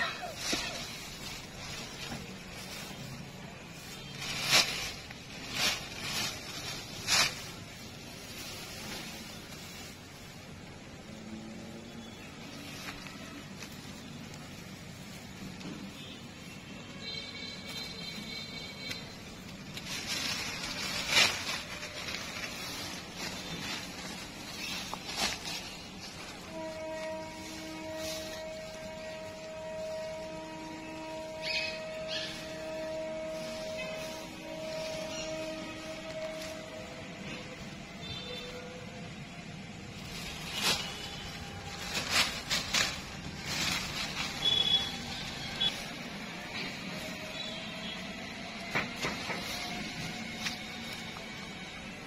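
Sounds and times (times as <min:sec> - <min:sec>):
wet grass rustling and crackling: 0:00.0 - 0:52.0.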